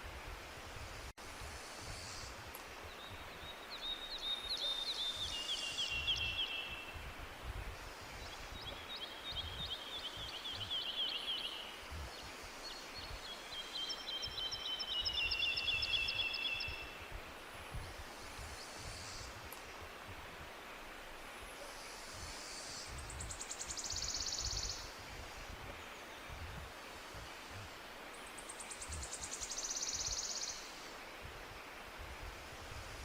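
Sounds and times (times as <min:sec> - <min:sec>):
songbird singing: 0:01.8 - 0:32.5.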